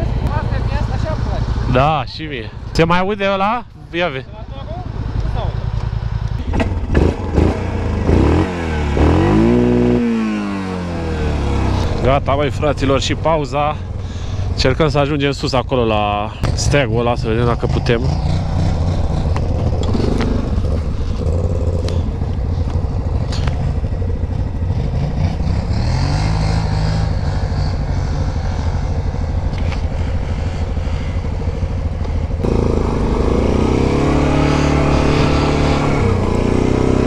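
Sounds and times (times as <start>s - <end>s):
atv engine idling and revving: 0.0s - 37.0s.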